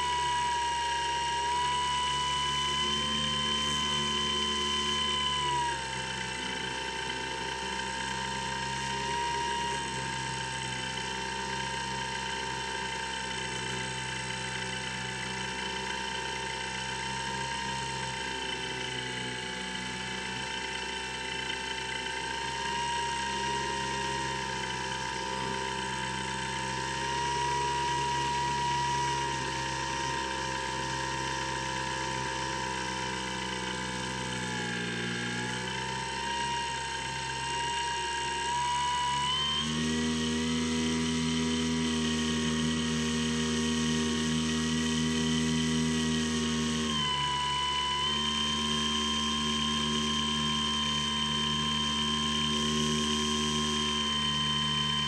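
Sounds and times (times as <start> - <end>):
electric motor and propeller whining: 0.0 - 55.0.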